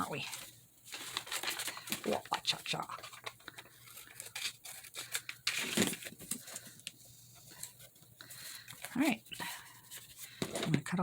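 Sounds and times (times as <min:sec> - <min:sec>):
paper rustling: 0:00.0 - 0:10.8.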